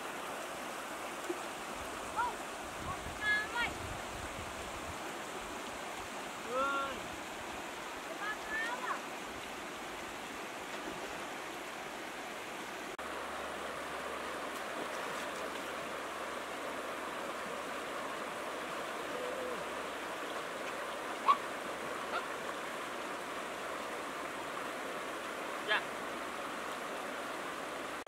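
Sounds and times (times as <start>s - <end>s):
fast-flowing river rushing: 0.0s - 28.0s.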